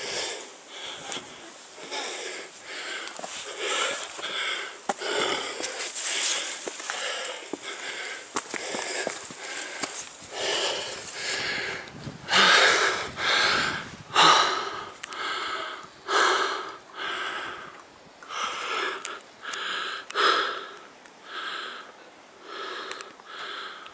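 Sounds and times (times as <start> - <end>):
heavy rapid breathing: 0.0 - 23.9.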